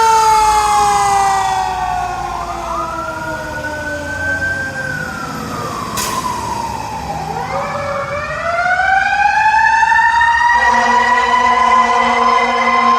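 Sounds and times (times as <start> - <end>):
emergency siren wailing: 0.0 - 12.9
steady lower siren tone: 0.0 - 12.9.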